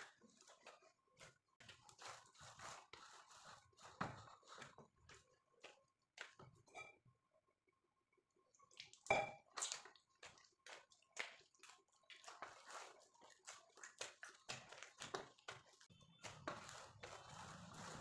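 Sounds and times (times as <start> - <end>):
hands kneading dough on metal: 0.0 - 6.7, 10.1 - 18.0.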